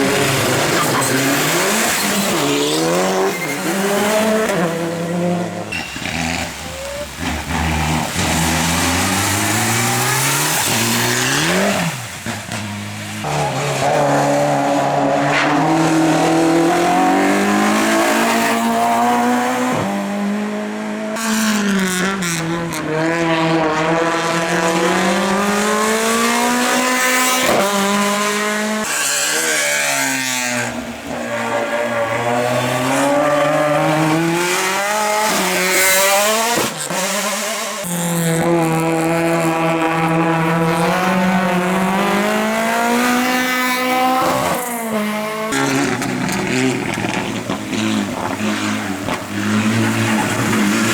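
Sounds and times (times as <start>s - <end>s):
race car engines revving: 0.0s - 50.9s.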